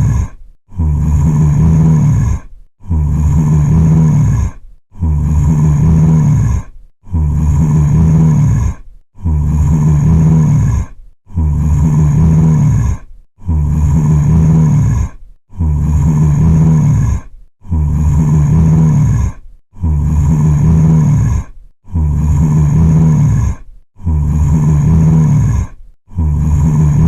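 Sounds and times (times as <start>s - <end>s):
zombie growl: 0.0s - 27.0s.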